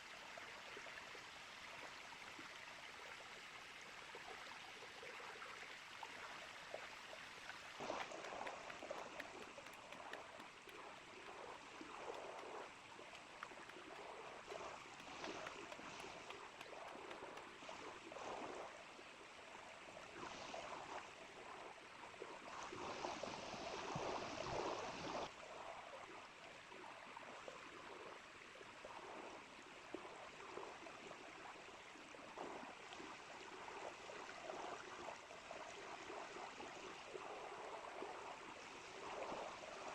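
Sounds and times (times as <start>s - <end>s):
small river flowing: 0.0s - 39.9s.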